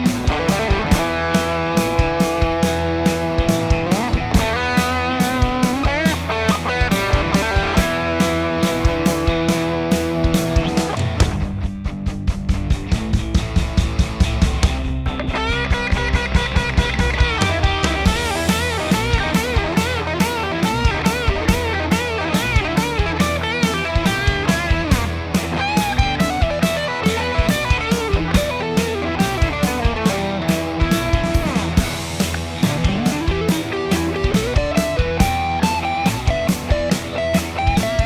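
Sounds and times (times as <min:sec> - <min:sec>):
electric guitar lead line: 0:00.0 - 0:38.0
rhythm guitar: 0:00.0 - 0:38.0
steady drum beat: 0:00.0 - 0:38.0.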